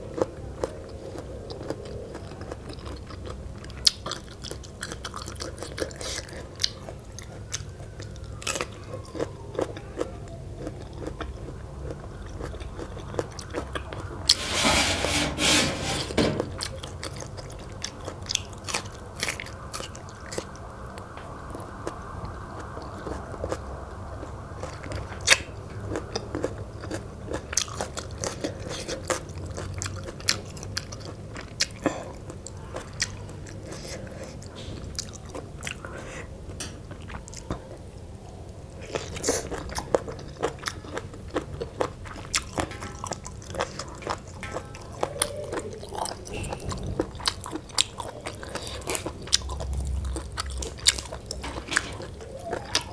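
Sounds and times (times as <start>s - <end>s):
wet chewing with crunches: 0.0s - 14.4s, 16.6s - 37.9s, 38.8s - 52.9s.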